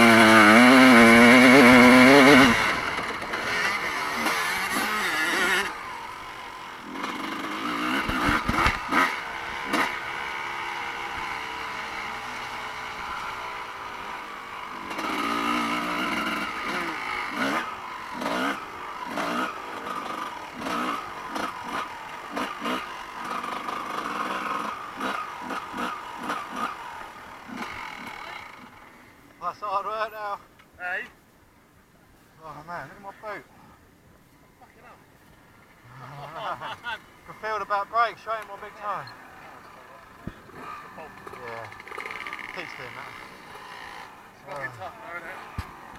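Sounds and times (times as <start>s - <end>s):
motocross bike engine revving: 0.0s - 29.1s, 35.8s - 45.9s.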